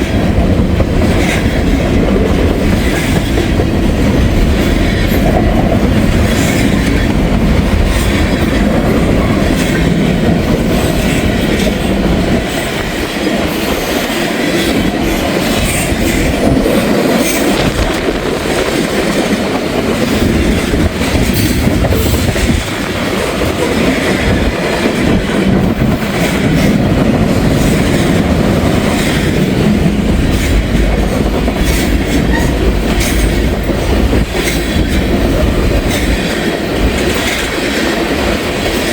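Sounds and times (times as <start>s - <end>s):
freight train rumbling: 0.0s - 38.9s
wheels clicking over rail joints: 0.0s - 38.9s.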